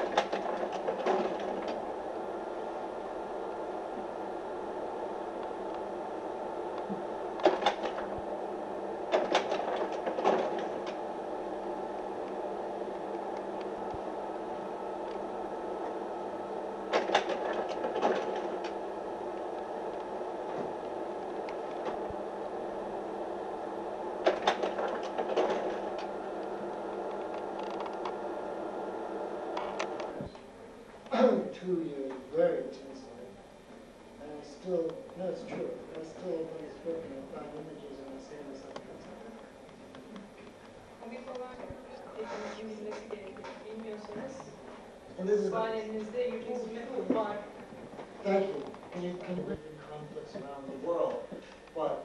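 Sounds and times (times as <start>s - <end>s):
projector fan hum: 0.0s - 52.0s.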